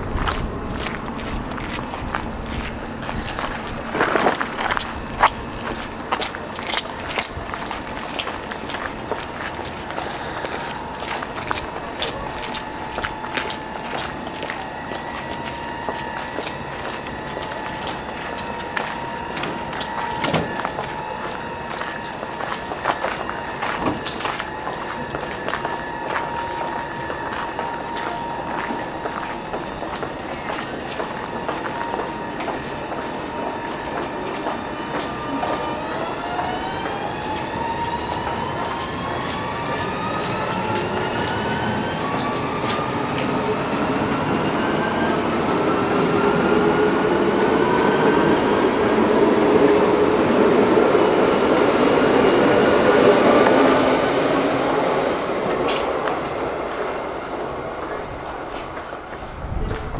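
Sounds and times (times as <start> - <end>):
electric train motors whining: 0.0 - 59.9
train rumble: 0.0 - 59.9.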